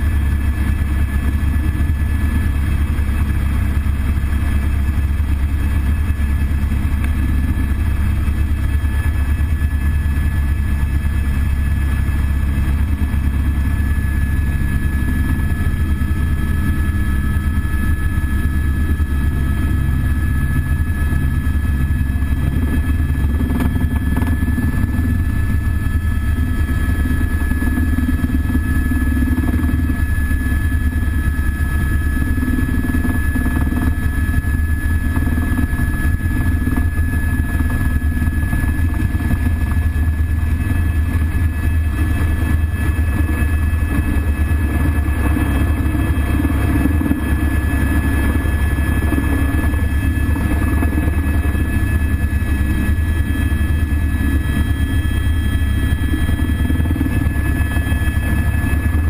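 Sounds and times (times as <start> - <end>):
helicopter rotor and engine drone: 0.0 - 59.0
steady high whine: 0.0 - 59.0.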